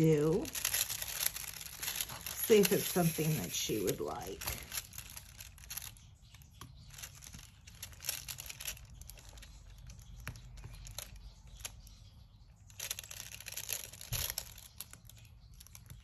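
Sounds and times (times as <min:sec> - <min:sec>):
plastic film crinkling: 0:00.0 - 0:16.0.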